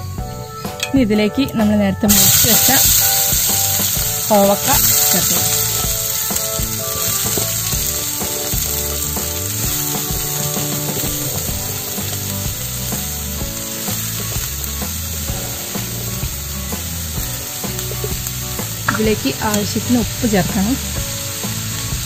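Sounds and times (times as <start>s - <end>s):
background music: 0.0s - 22.0s
oil sizzling in a pan: 2.0s - 22.0s.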